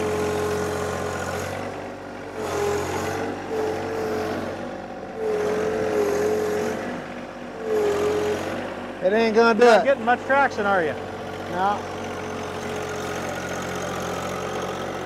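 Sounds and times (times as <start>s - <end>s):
diesel tractor straining under load: 0.0s - 15.0s.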